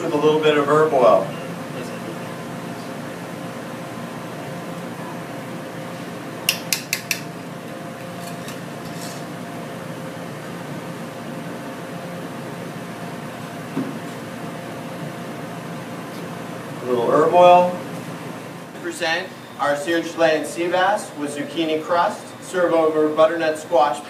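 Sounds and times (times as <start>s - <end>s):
fan hum: 0.0s - 24.0s.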